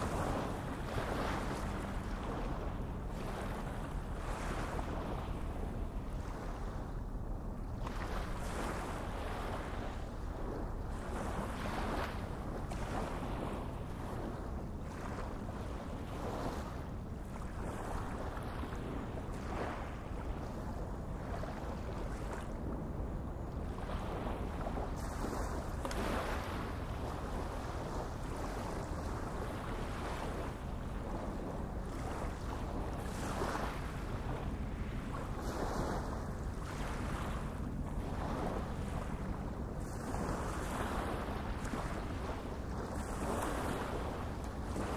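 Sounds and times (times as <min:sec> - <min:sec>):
rushing wind and water: 0:00.0 - 0:44.9
wind buffeting microphone: 0:00.0 - 0:44.9.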